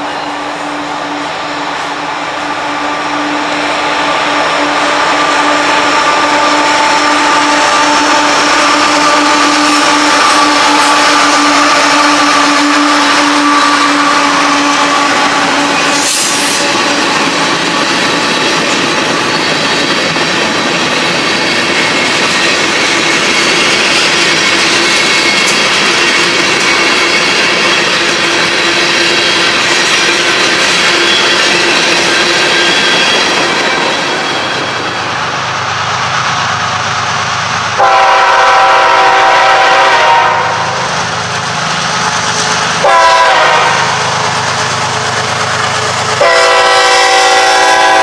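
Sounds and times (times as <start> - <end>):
diesel locomotives passing: 0.0 - 48.0
train wheels on rails: 0.0 - 48.0.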